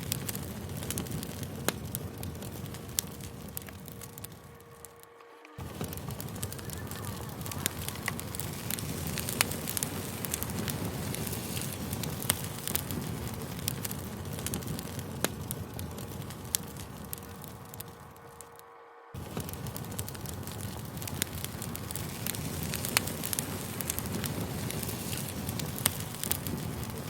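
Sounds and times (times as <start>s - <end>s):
burning wood crackling: 0.0s - 27.0s
rush of flames: 0.0s - 27.0s.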